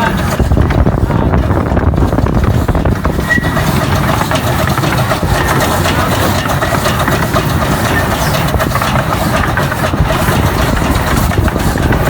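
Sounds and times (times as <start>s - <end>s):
loud mechanical engine rumble: 0.0s - 12.0s.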